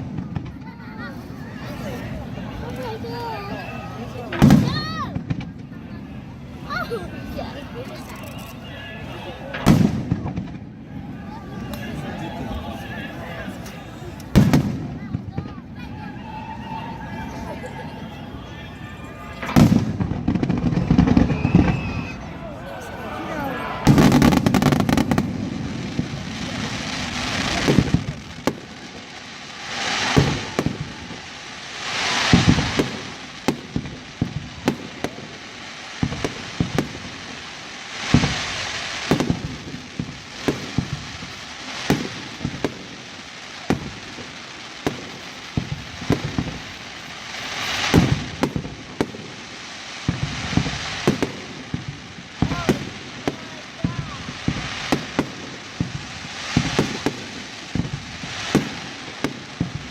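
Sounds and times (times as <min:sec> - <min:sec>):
fireworks bangs: 0:00.0 - 0:59.9
fireworks crackle: 0:00.0 - 0:59.9.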